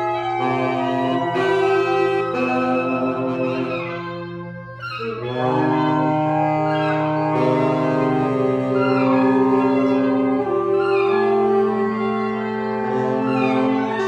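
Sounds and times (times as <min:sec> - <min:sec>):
clarinet and saxophones free jazz: 0:00.0 - 0:14.0.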